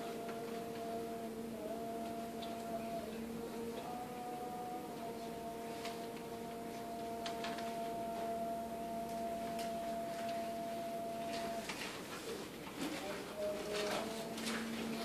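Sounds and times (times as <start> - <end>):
steady pitched hum: 0.0 - 15.0.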